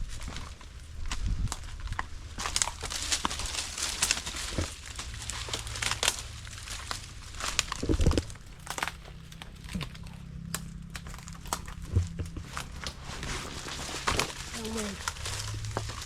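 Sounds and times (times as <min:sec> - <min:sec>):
rustling and crinkling: 0:00.0 - 0:16.0
steady low hum: 0:00.0 - 0:16.0.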